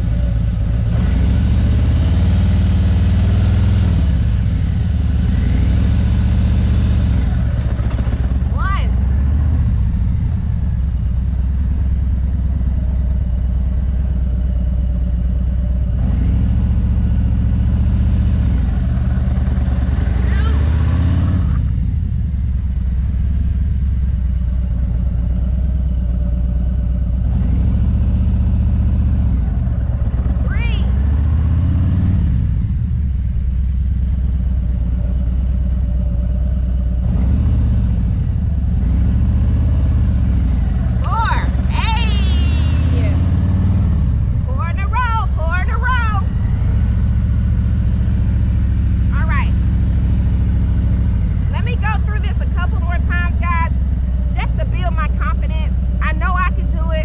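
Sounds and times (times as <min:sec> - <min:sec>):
motorcycle engine running at low speed: 0:00.0 - 0:57.0.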